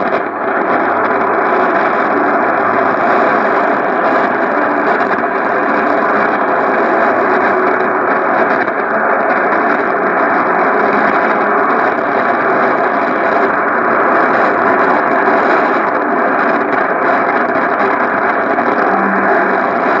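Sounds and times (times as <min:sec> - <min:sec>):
shortwave radio static: 0:00.0 - 0:20.0
weak am radio broadcast: 0:00.0 - 0:20.0.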